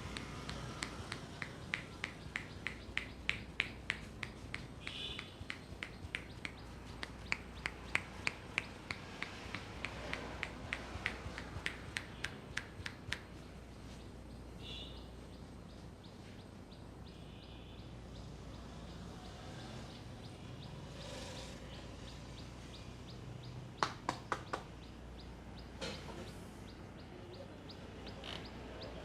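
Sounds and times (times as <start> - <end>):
faint high chirping: 0.0 - 23.6.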